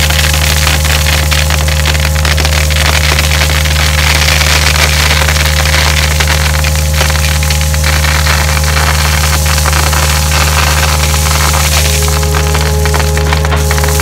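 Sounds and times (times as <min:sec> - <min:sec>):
diesel engine running: 0:00.0 - 0:14.0
gravel rattling out of bucket: 0:00.0 - 0:14.0.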